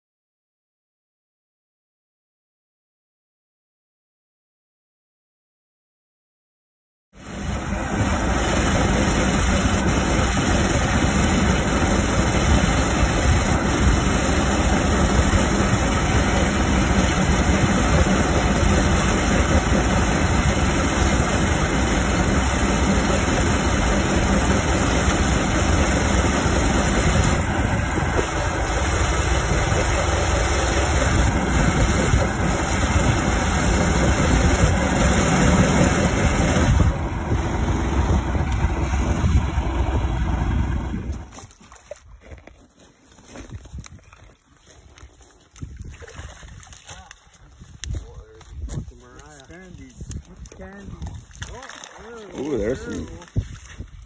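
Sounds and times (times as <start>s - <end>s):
ice auger engine drilling: 7.2s - 47.9s, 48.5s - 54.0s.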